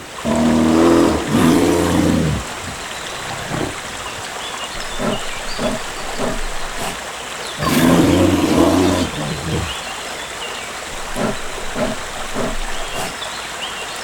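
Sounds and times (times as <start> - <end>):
animal grunts: 0.0 - 7.0, 7.6 - 9.9, 10.9 - 13.2
large animal bellowing: 0.0 - 7.0, 7.6 - 9.8, 10.9 - 13.2.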